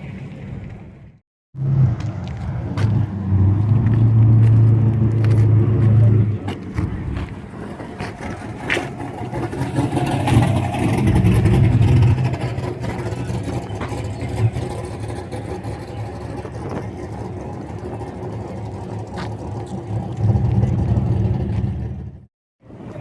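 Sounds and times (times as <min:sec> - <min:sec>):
car engine running: 0:01.6 - 0:22.3.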